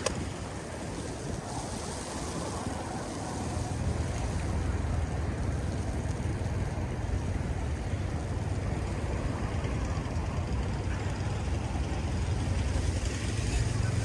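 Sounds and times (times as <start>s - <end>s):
passing traffic: 0.0s - 14.0s
wind: 0.0s - 14.0s.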